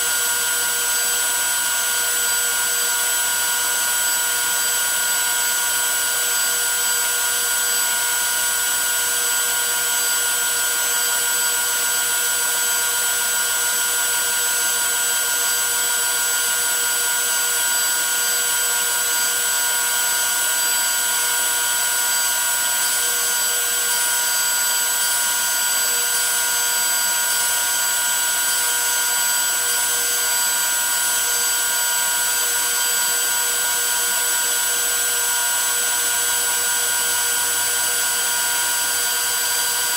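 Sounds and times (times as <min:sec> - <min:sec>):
router high whine: 0:00.0 - 0:39.9.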